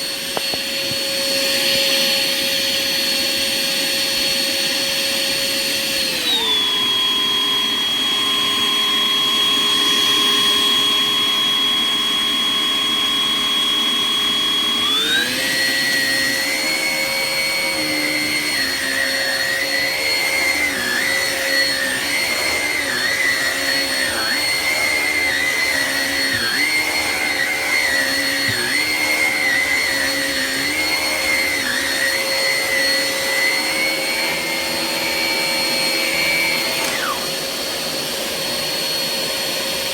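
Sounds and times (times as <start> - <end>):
cordless vacuum motor whine: 0.0 - 39.9.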